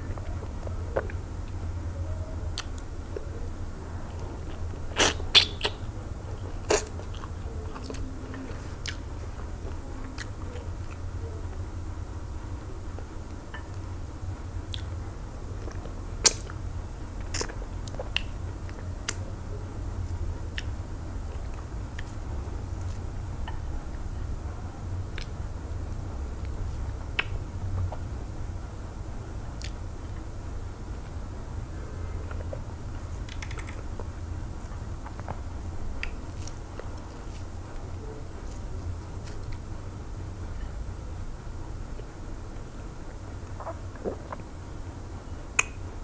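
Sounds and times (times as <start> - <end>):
person chewing and eating: 0.0 - 39.8, 42.8 - 46.0
steady low hum: 0.0 - 46.0.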